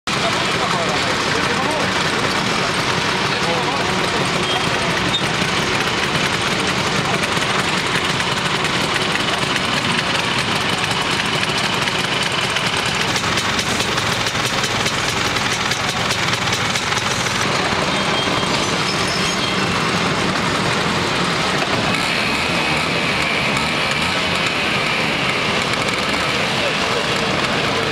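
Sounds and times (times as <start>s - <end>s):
many scooter engines running: 0.0s - 27.9s.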